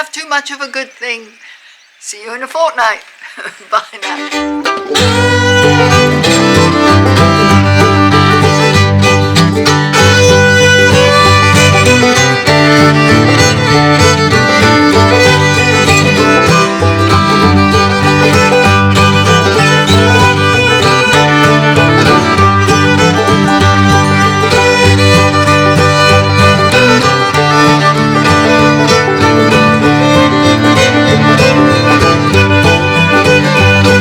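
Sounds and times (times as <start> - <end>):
fiddle tune with guitar: 3.5 - 34.0.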